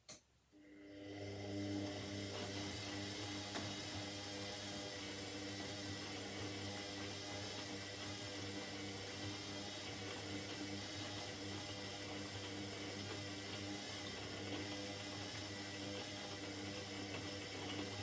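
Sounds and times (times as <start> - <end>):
washing machine running: 0.6 - 18.0.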